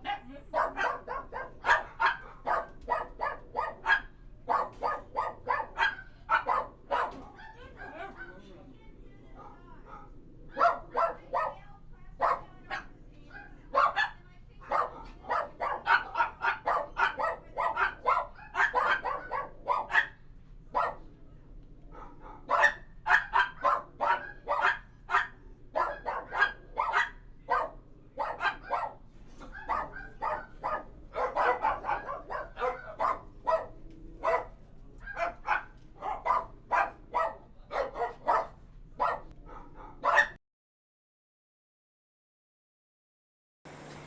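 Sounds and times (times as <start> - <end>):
dog barking rapidly: 0.0 - 7.4, 10.6 - 11.6, 12.2 - 21.1, 22.0 - 40.4.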